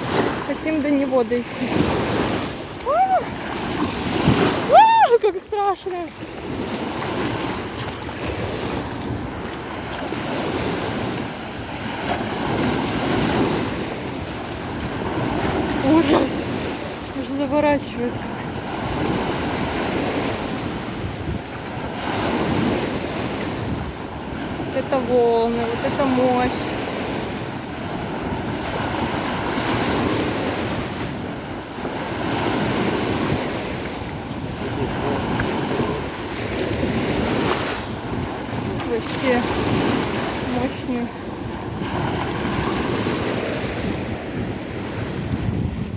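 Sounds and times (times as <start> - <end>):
surf breaking on a beach: 0.0 - 45.9
wind buffeting microphone: 0.0 - 45.9.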